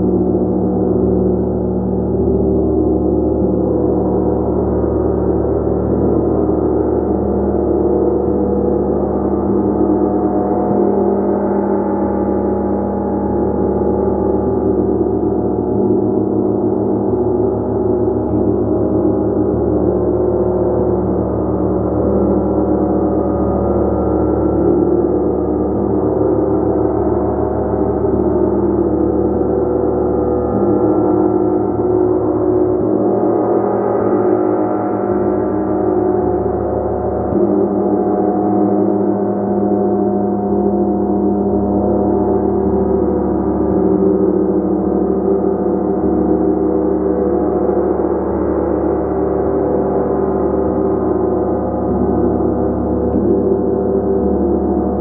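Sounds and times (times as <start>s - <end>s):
gong sustained wash: 0.0s - 55.0s.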